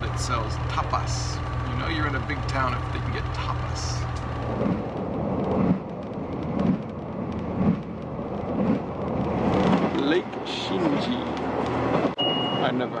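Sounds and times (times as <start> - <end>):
low hum of running gear: 0.0 - 10.5
train rumbling on track: 0.0 - 13.0.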